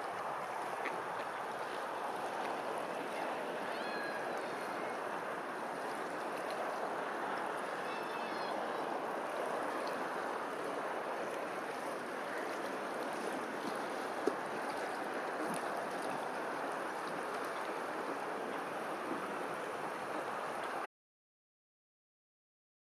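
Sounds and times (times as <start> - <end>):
flowing water: 0.0 - 20.9.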